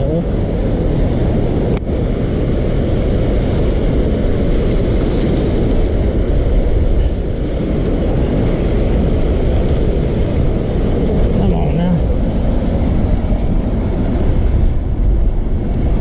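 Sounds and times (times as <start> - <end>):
roar of rushing water: 0.0 - 16.0.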